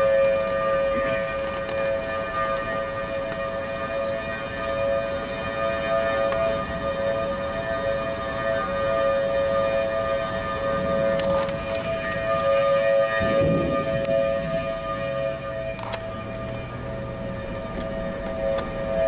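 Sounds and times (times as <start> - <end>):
outdoor warning siren: 0.0 - 19.0.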